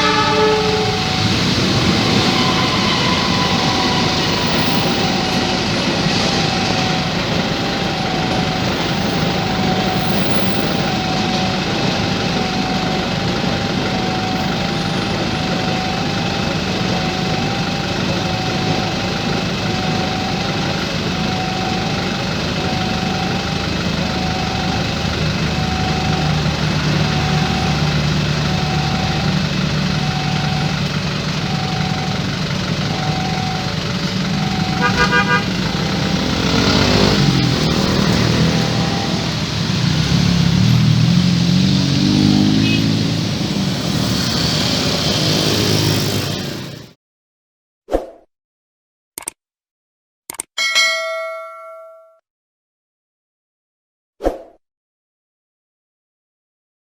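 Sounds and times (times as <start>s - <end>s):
level crossing siren beeping: 0.0s - 46.9s
train passing rumble: 0.0s - 46.9s
low engine drone: 0.0s - 47.0s.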